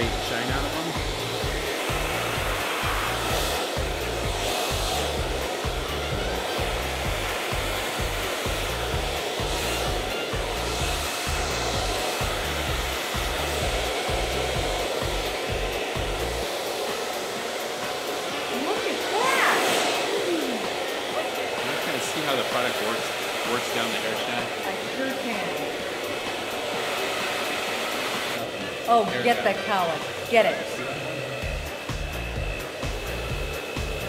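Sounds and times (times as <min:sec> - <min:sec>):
hair dryer blowing: 0:00.0 - 0:34.0.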